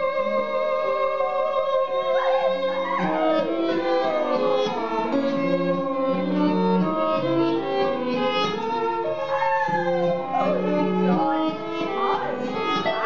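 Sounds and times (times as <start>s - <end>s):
held piano notes: 0.0s - 13.0s
violin sliding in pitch: 0.0s - 13.0s.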